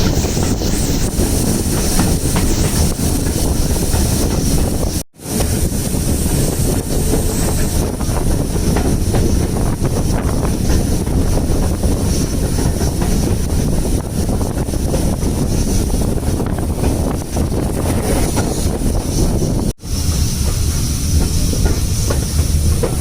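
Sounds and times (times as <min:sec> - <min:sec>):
train carriage rumble: 0:00.0 - 0:23.0
wind buffeting microphone: 0:00.0 - 0:23.0.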